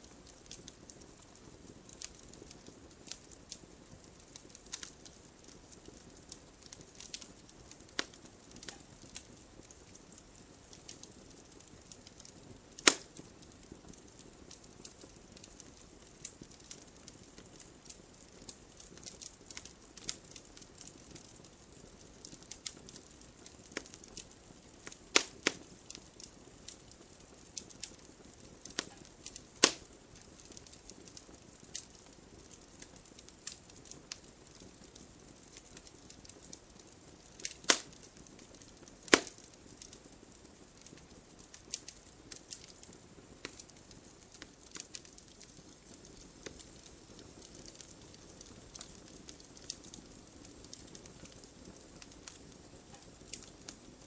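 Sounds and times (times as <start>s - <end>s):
wood fire crackling: 0.0s - 54.0s
loud fire pops: 0.2s - 35.0s, 35.6s - 53.8s.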